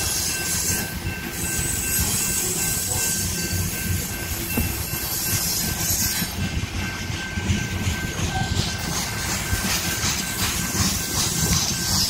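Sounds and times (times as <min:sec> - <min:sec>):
freight train cars rolling past: 0:00.0 - 0:12.0.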